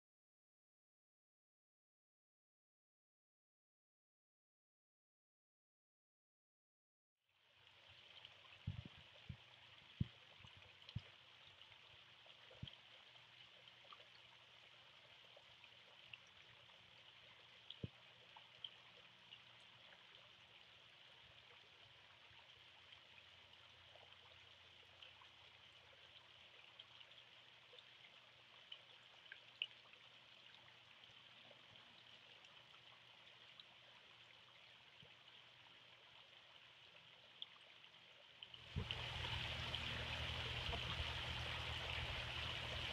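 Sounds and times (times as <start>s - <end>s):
fountain water trickling: 7.4s - 42.9s.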